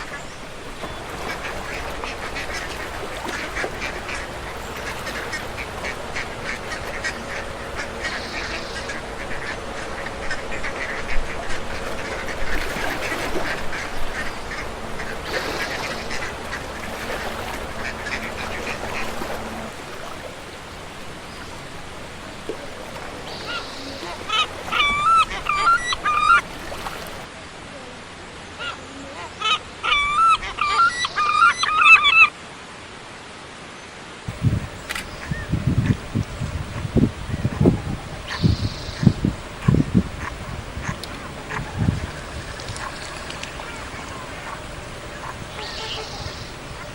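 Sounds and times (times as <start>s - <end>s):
waterfowl quacking and honking: 0.0s - 27.3s, 28.6s - 32.3s, 35.0s - 46.9s
wavering honking calls: 0.0s - 27.3s, 35.0s - 46.9s.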